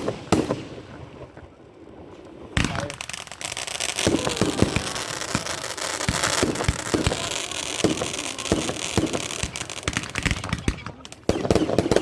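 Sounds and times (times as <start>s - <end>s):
firework crackling: 2.2s - 12.0s.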